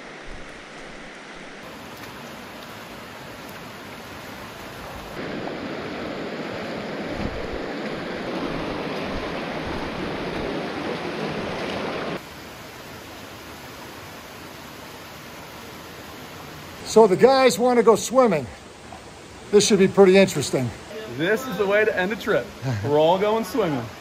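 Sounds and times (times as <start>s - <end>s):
creek water rushing over rocks: 0.0s - 24.0s.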